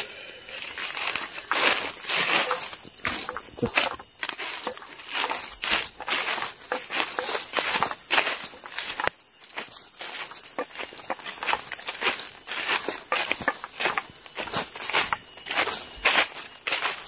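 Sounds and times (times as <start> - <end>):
footsteps crunching dry leaves: 0.5 - 17.0.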